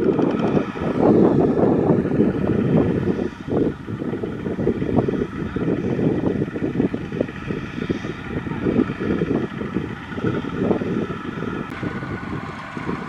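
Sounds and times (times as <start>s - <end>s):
combine harvester running: 0.0s - 13.0s
walking tractor engines chugging: 0.0s - 13.0s.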